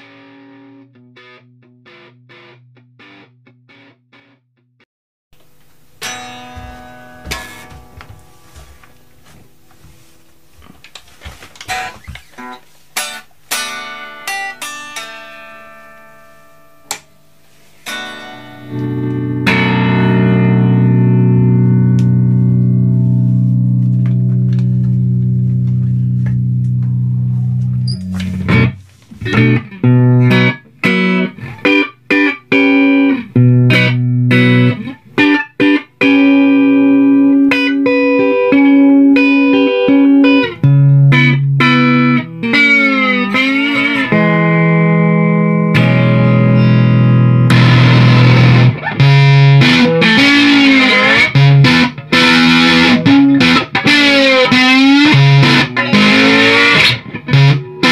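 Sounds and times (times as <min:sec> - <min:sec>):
fuzz electric guitar: 0:00.0 - 0:04.4, 0:06.0 - 0:08.8, 0:17.8 - 0:57.9.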